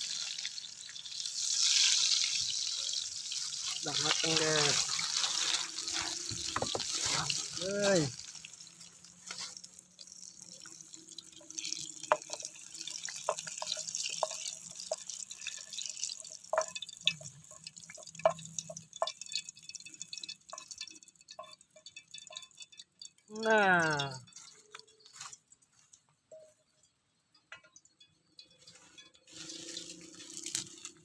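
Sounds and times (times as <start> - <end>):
oil popping and crackling: 0.0 - 31.0.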